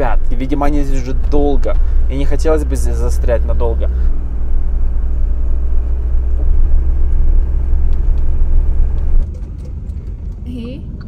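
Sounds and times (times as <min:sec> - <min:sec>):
motorhome driving rumble: 0:00.0 - 0:11.0.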